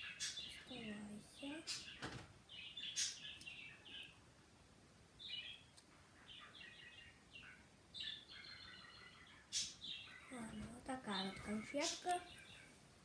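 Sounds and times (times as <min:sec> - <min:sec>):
faint bird chirping: 0:00.0 - 0:04.4, 0:05.1 - 0:13.0.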